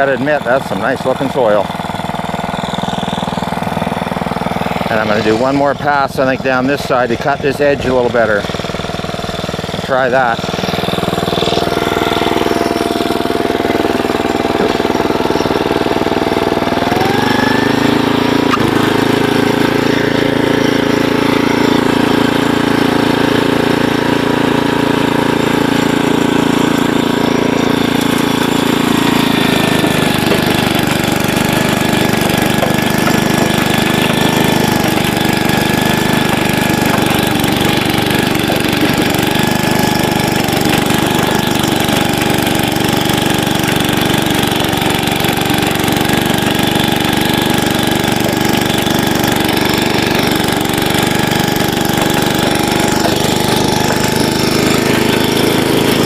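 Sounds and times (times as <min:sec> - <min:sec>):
rototiller engine tilling soil: 0:00.0 - 0:56.0.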